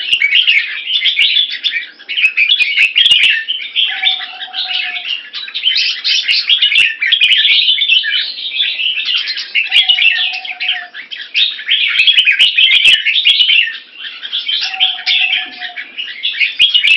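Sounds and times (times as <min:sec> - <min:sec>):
birds chattering and chirping: 0:00.0 - 0:16.9.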